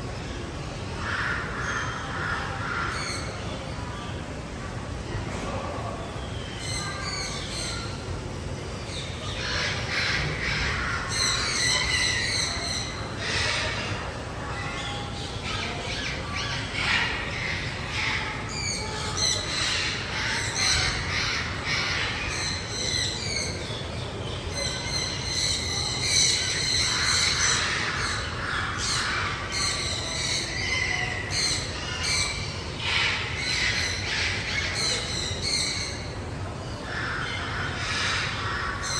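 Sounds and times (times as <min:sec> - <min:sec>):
steady low hum: 0:00.0 - 0:38.9
birds calling: 0:06.0 - 0:38.9.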